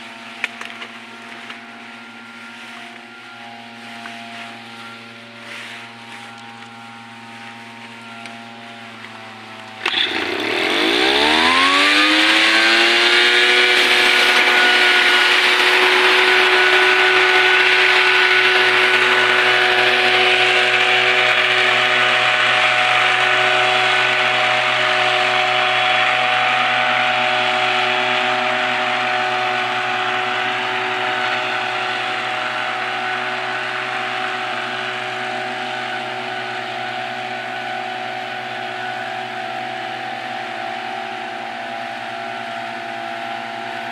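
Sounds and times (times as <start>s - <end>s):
small engine revving: 0.0s - 43.9s.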